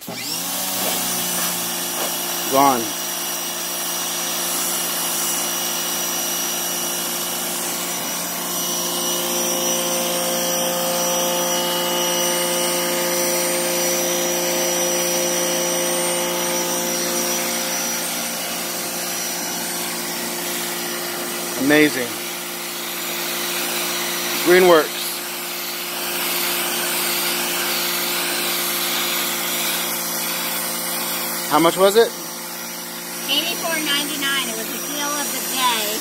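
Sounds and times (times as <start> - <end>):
pressure washer motor humming: 0.0 - 36.0
water jet spraying on concrete: 0.3 - 36.0.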